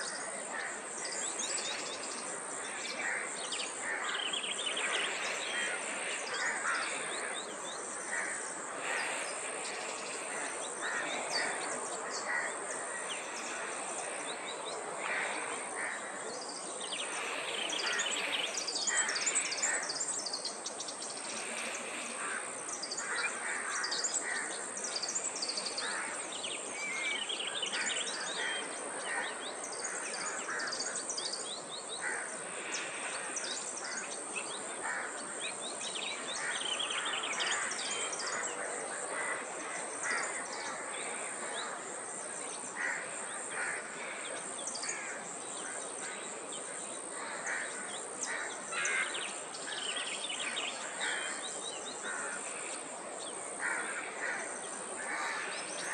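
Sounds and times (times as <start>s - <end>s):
chorus of birds chirping: 0.0s - 55.9s
steady background hiss: 0.0s - 55.9s.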